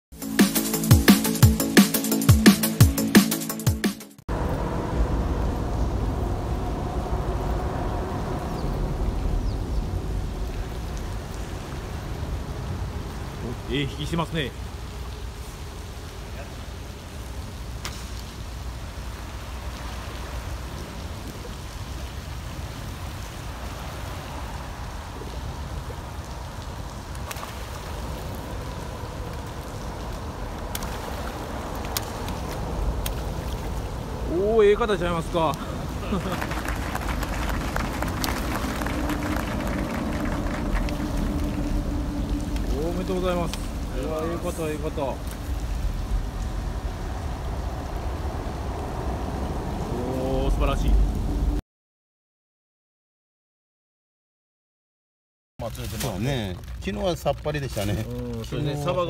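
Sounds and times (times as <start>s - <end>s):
low rumble and hiss: 4.3s - 51.6s
rain pattering: 4.3s - 51.6s, 55.6s - 59.0s.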